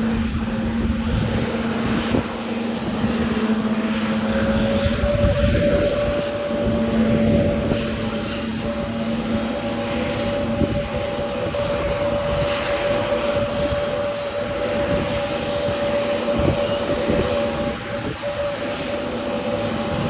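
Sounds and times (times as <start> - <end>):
jet engines whining and roaring: 0.0 - 20.0.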